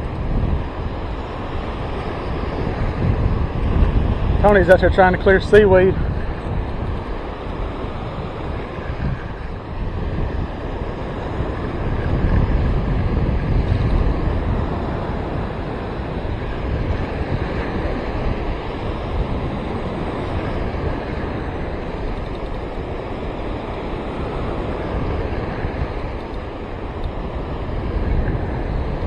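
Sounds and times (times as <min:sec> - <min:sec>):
surf breaking on beach: 0:00.0 - 0:29.0
wind buffeting microphone: 0:00.0 - 0:29.0.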